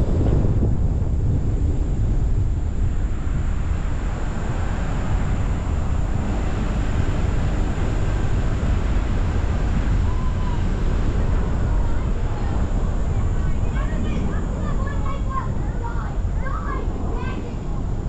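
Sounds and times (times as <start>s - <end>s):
car road noise: 0.0s - 18.0s
wind rumble on microphone: 0.0s - 18.0s.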